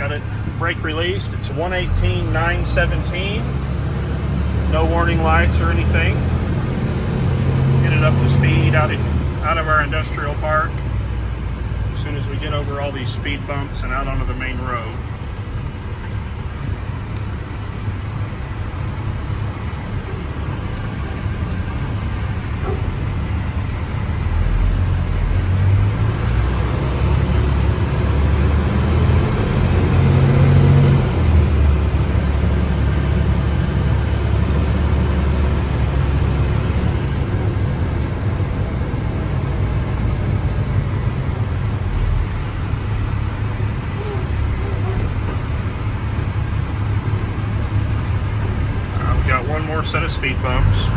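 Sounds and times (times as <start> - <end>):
diesel truck engine driving: 0.0 - 50.9.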